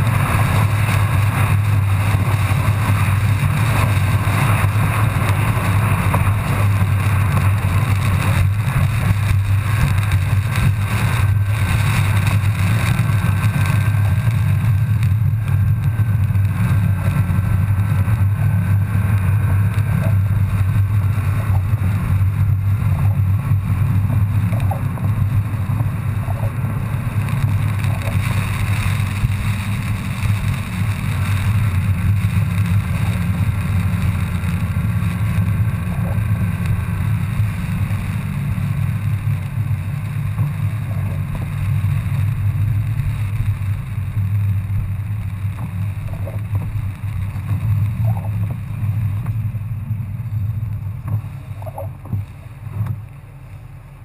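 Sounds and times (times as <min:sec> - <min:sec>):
car engine droning: 0:00.0 - 0:54.0
wet road noise: 0:00.0 - 0:54.0.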